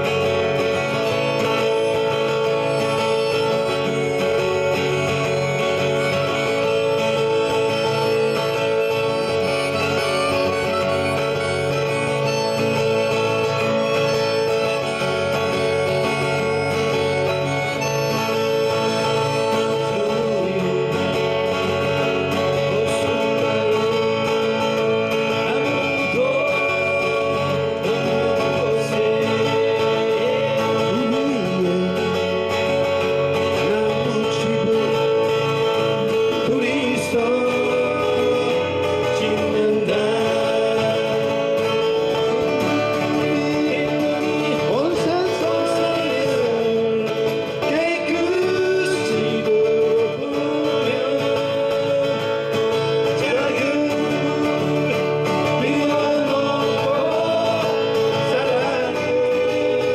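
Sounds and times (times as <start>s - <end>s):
acoustic guitars strumming: 0.0s - 59.9s
harmonica playing: 0.0s - 59.9s.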